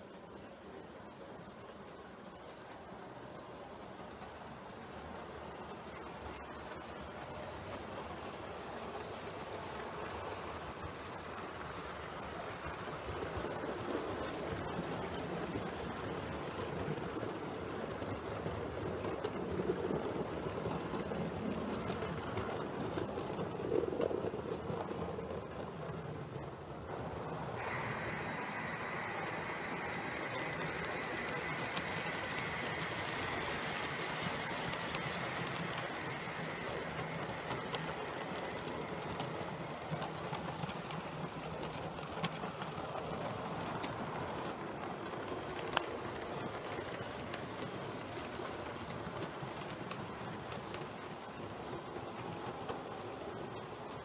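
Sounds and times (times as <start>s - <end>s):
model train wheels on rails: 0.0s - 54.0s.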